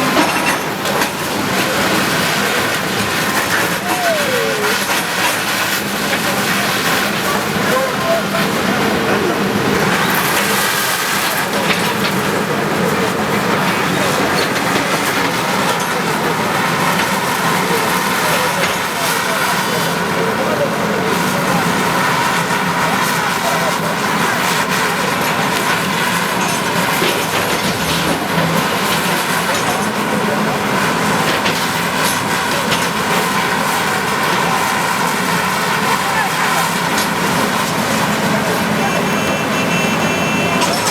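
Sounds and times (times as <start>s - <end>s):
bulldozer engine running: 0.0s - 40.9s.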